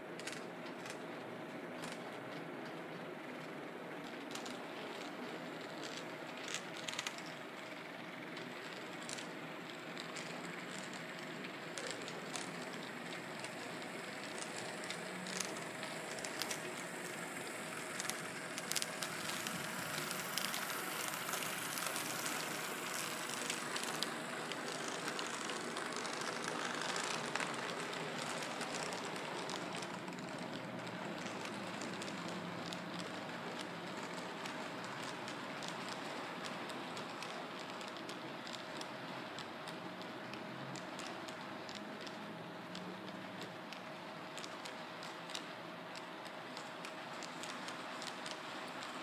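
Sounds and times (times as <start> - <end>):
small track clicks: 0.2 - 49.0
model train rolling rumble: 1.8 - 49.0.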